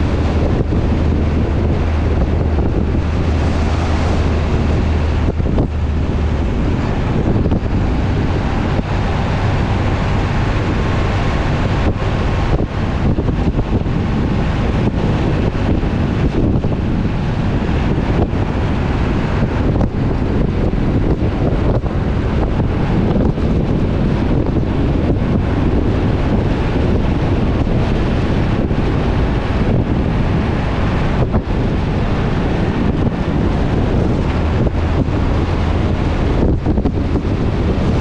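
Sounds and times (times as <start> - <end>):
road and engine noise: 0.0 - 38.0
wind buffeting microphone: 0.0 - 38.0.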